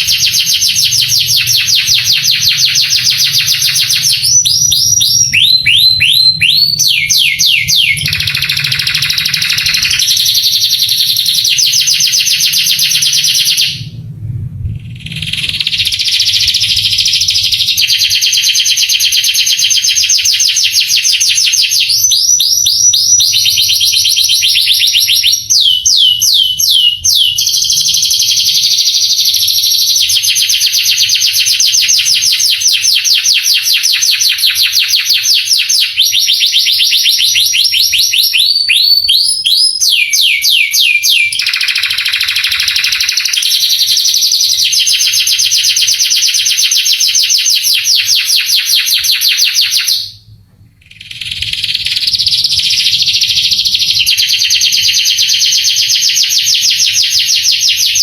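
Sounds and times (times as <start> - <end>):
canary singing trills and whistles: 0.0 - 13.9, 14.9 - 50.2, 50.8 - 58.0.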